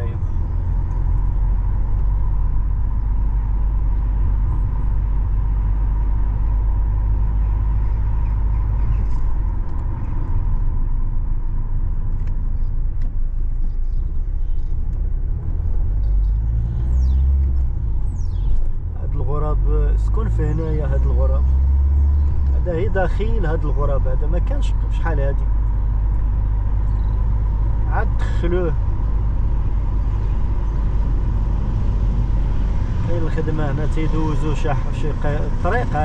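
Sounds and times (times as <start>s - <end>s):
car driving on road: 0.0s - 36.0s.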